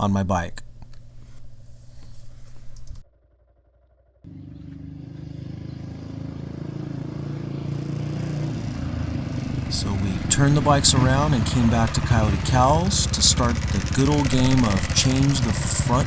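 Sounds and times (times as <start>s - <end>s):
motorcycle engine running: 2.4s - 16.0s.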